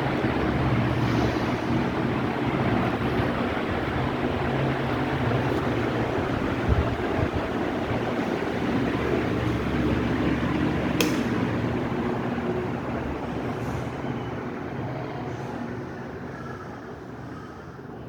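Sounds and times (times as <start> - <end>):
ceiling fan running: 0.0 - 18.0.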